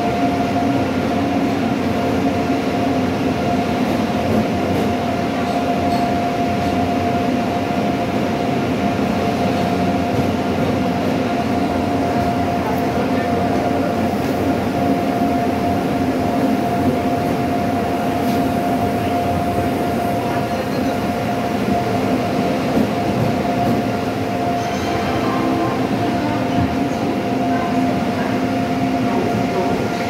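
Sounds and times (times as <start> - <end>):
train running rumble: 0.0 - 30.0.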